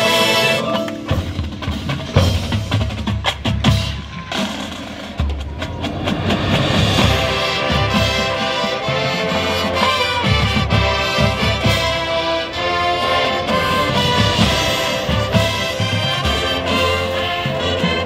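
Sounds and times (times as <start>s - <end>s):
brass chords: 0.0s - 5.1s, 6.6s - 18.0s
marching drums: 0.0s - 18.0s
percussion ensemble: 0.0s - 18.0s.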